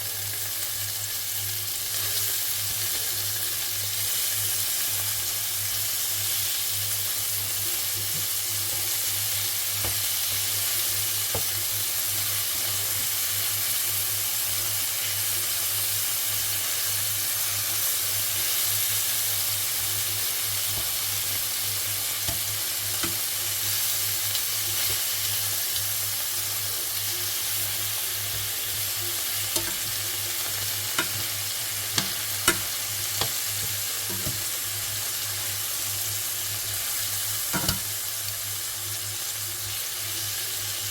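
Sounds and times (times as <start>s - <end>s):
food sizzling in a frying pan: 0.0s - 40.9s.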